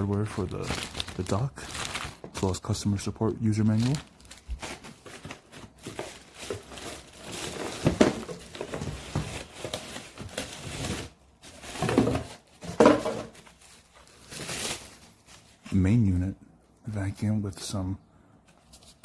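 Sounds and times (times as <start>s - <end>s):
plastic packaging rustling: 0.0s - 16.2s.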